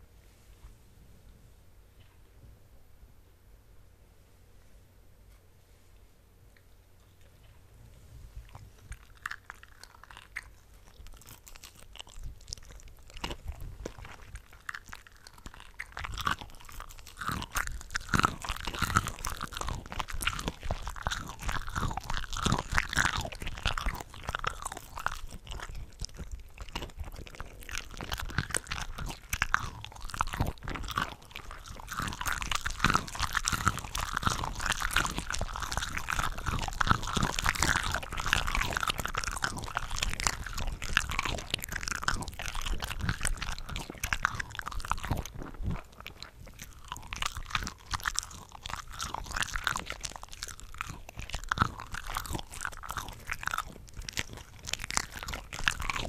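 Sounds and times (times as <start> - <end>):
chewing and biting shrimp: 8.4 - 56.0.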